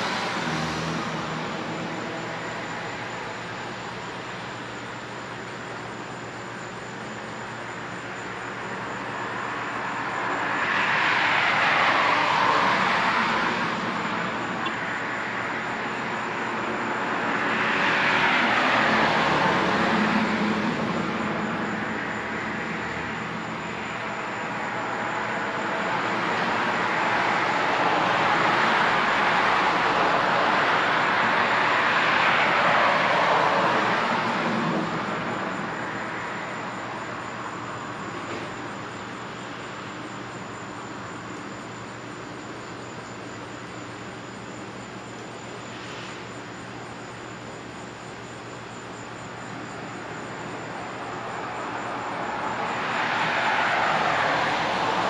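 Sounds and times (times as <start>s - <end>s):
cars passing on a road: 0.0s - 55.0s
low traffic hum: 0.0s - 55.0s.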